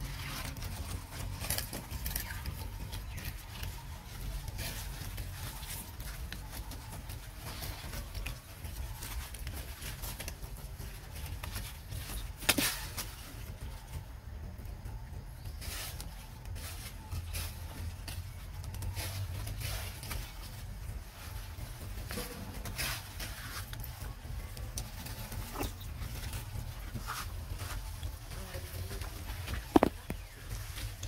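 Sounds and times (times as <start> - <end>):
dry leaves rustling and crackling: 0.0 - 31.0.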